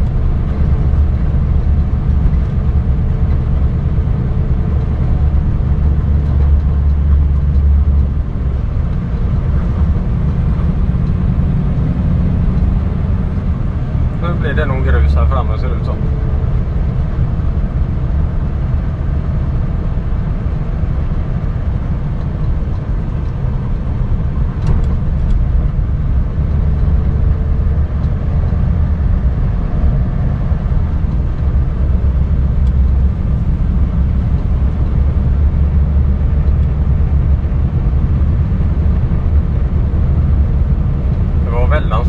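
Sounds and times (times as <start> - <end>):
truck diesel engine droning: 0.0 - 42.0.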